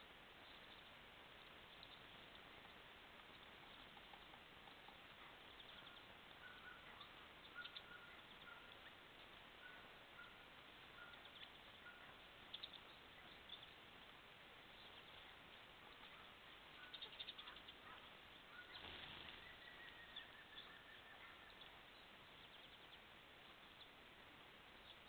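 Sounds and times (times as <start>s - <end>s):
microphone hiss: 0.0s - 25.0s.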